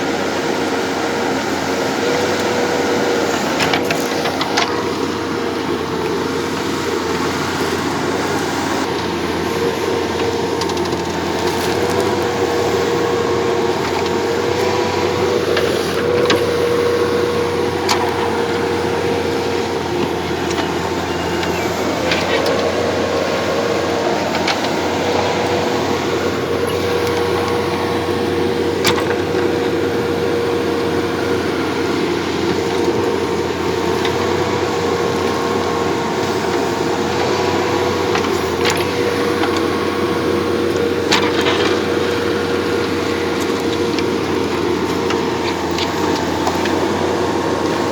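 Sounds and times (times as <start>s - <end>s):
machine whining steadily: 0.0s - 47.9s.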